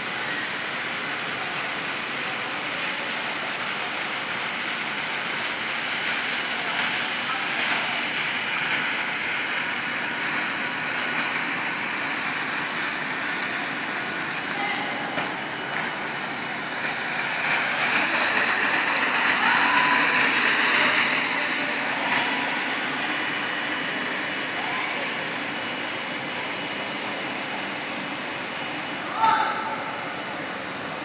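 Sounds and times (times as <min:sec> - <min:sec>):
floor scrubber whirring: 0:02.4 - 0:29.2.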